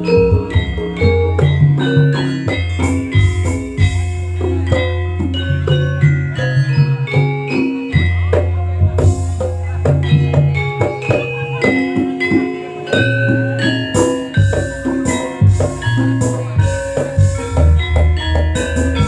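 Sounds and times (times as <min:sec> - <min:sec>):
deep bass line: 0:00.0 - 0:19.0
drumming: 0:00.0 - 0:19.0
ringing struck melody notes: 0:00.0 - 0:19.0.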